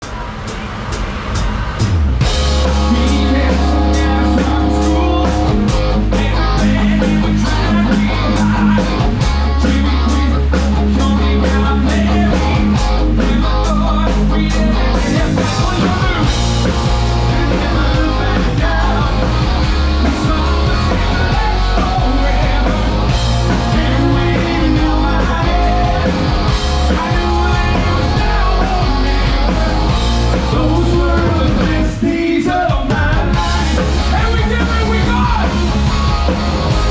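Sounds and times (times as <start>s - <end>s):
drum kit: 0.0s - 36.9s
electric guitar: 1.6s - 36.9s
bass guitar: 1.7s - 36.9s
person singing: 2.6s - 35.6s.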